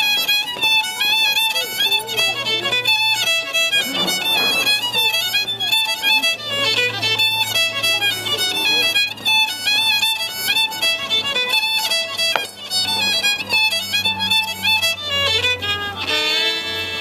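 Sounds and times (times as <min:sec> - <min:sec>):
lively fiddle tune: 0:00.0 - 0:17.0.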